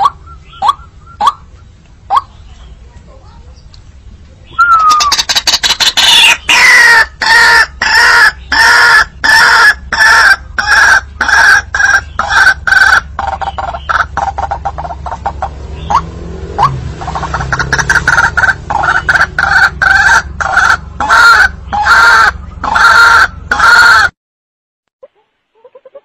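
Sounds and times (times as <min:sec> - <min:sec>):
waterhen calling harsh notes: 0:00.0 - 0:03.7, 0:04.4 - 0:24.2.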